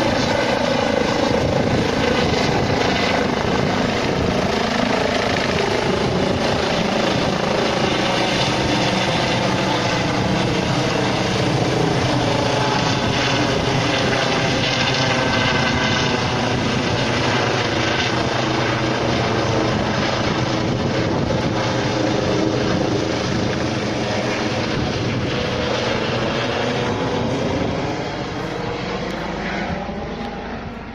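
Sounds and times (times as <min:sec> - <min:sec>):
helicopter running: 0:00.0 - 0:30.9.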